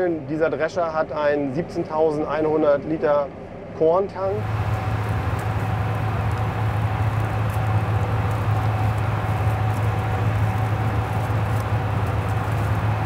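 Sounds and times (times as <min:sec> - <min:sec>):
combine harvester drone in cab: 0:00.0 - 0:13.0.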